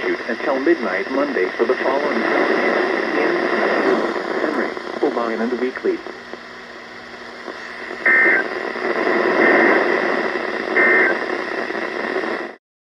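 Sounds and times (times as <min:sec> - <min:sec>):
radio static hiss: 0:00.0 - 0:12.6.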